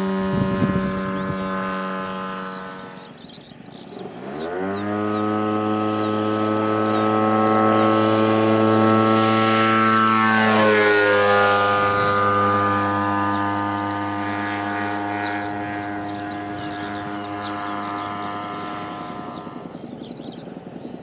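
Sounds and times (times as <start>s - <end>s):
model plane engine whine: 0.0s - 21.0s.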